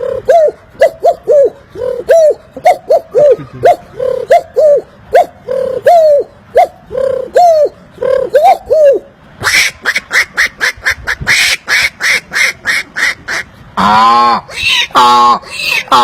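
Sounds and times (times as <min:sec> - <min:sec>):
man imitating bird calls: 0:00.0 - 0:16.0.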